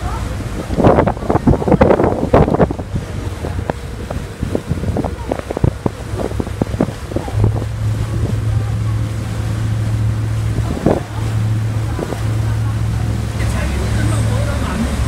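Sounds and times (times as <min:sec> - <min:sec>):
boat engine drone: 0:00.0 - 0:15.0
water rushing along hull: 0:00.0 - 0:15.0
wind buffeting microphone: 0:00.0 - 0:15.0.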